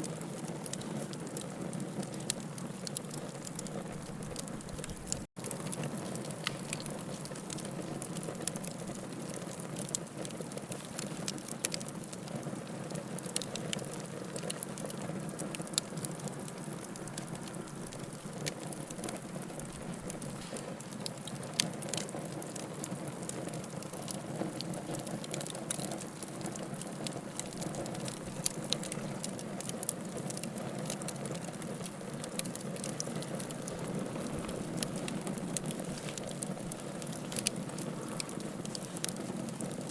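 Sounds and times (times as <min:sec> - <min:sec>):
fire burning: 0:00.0 - 0:39.9
logs crackling and popping: 0:00.0 - 0:39.9.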